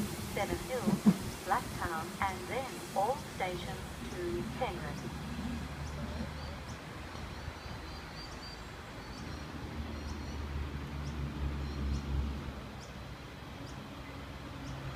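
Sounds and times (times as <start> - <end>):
low rumble of electric train: 0.0 - 14.9.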